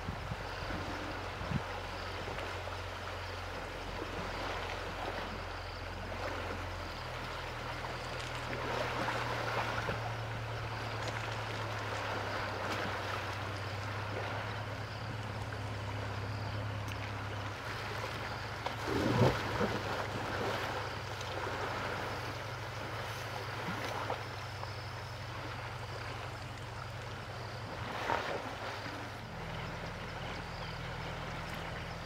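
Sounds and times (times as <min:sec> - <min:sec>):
river water flowing: 0:00.0 - 0:32.0
steady low hum: 0:00.0 - 0:32.0
elephant splashing in water: 0:00.5 - 0:32.0.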